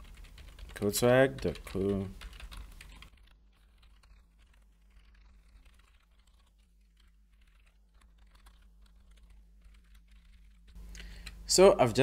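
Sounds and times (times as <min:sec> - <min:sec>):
rapid keyboard typing: 0:00.0 - 0:11.4
low steady hum: 0:00.0 - 0:12.0.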